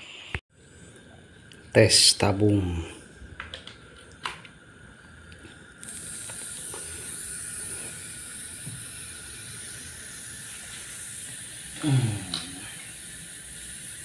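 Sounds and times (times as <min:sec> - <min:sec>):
television high hiss: 0:01.7 - 0:14.0.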